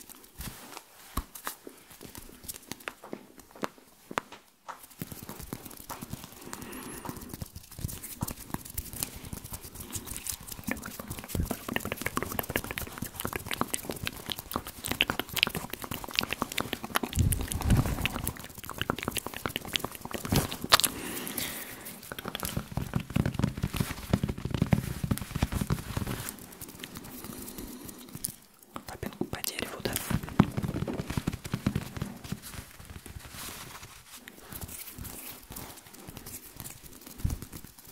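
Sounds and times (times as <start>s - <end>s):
fingers rubbing and tapping microphone: 1.2s - 37.9s.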